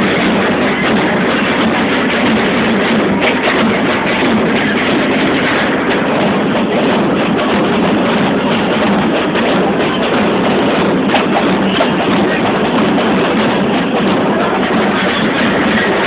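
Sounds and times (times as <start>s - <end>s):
bass drums beating: 0.0s - 16.0s.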